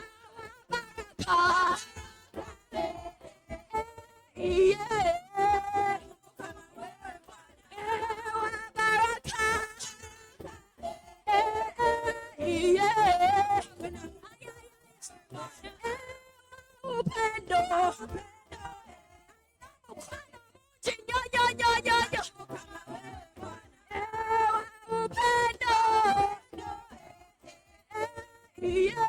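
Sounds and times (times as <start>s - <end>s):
person singing: 0.0s - 19.1s, 19.9s - 29.0s.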